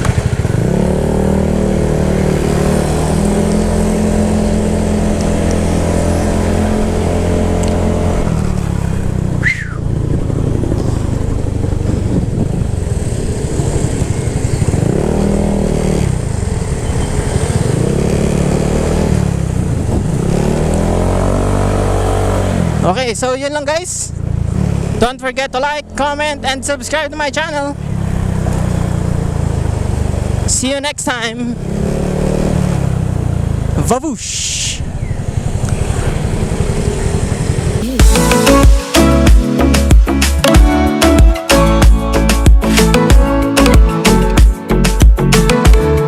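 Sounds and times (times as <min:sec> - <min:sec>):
scooter engine exhaust: 0:00.0 - 0:40.7.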